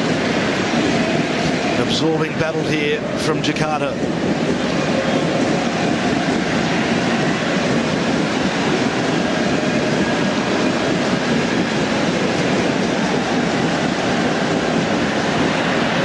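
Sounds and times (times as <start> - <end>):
stadium crowd din: 0.0 - 16.0.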